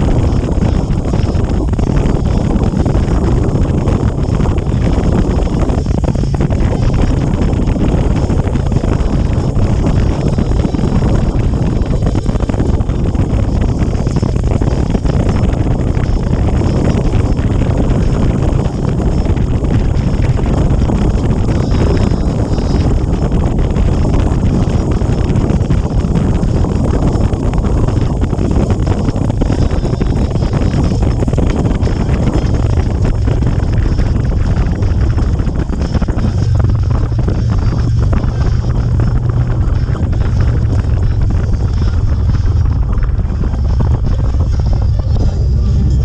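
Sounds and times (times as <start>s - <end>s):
motorcycle running: 0.0s - 46.0s
wind buffeting microphone: 0.0s - 46.0s.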